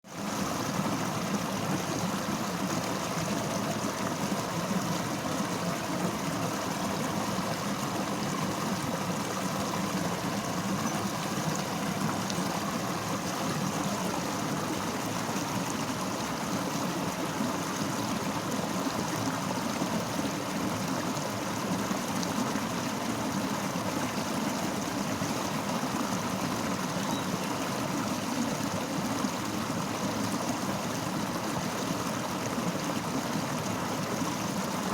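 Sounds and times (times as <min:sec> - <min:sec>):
fast-flowing river: 0:00.1 - 0:34.9.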